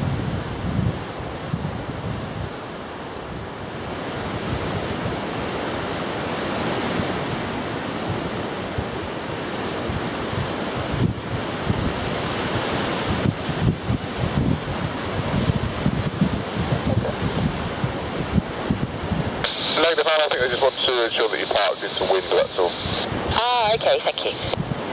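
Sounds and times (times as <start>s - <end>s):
wind buffeting microphone: 0.0s - 19.7s, 24.4s - 24.9s.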